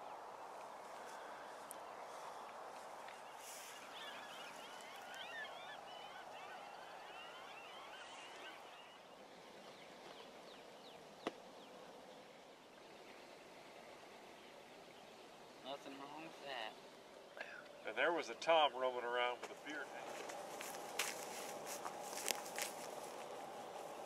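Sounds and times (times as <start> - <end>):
birds twittering: 0.0 - 24.0.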